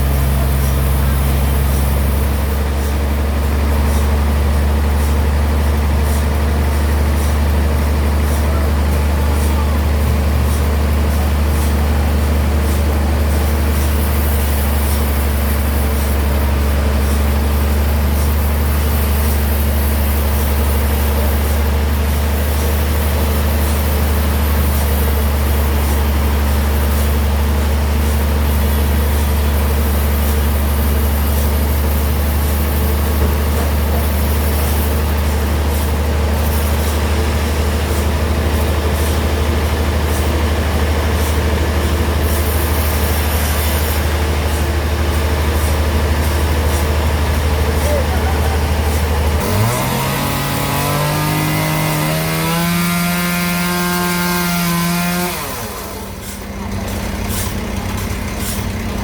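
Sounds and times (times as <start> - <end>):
bandsaw running: 0.0 - 59.0.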